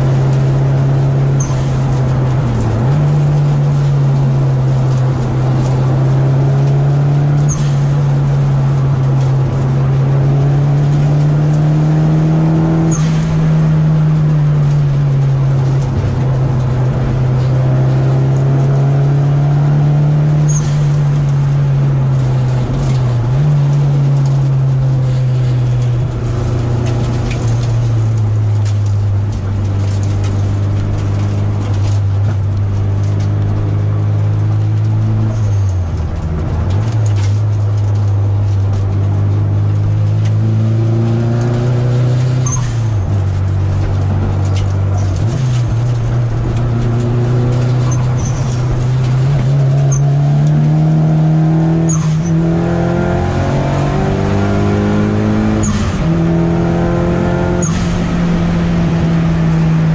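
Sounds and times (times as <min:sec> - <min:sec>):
car engine droning from inside cabin: 0:00.0 - 0:59.9.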